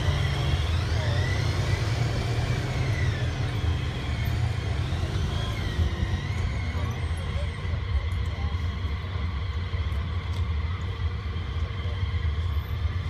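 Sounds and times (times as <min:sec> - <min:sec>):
vehicle engine rumble with whine: 0:00.0 - 0:13.0.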